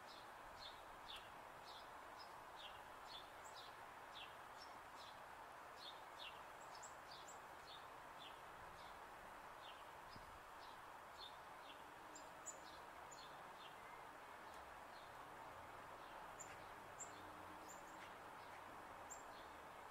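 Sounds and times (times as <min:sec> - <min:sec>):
small birds chirping: 0:00.0 - 0:19.9
steady background hiss: 0:00.0 - 0:19.9.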